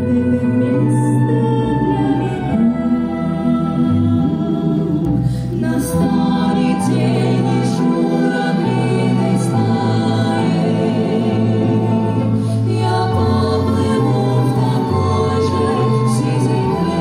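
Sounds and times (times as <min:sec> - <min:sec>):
vocal ensemble singing in harmony: 0:00.0 - 0:17.0.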